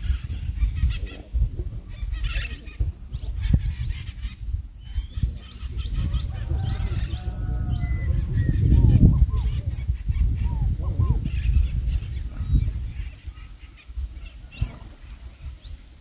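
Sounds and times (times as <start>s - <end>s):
bird calls: 0.0s - 15.8s
wind rumbling on microphone: 0.0s - 16.0s.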